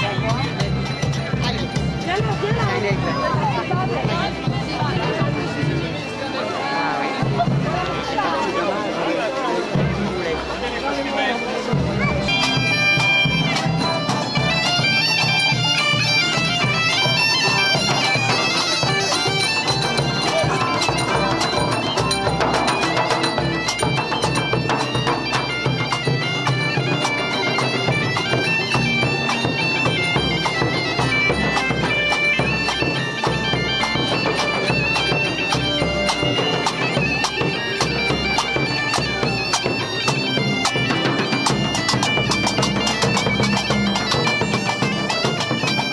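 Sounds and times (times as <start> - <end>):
bagpipes playing lively tune: 0.0 - 45.9.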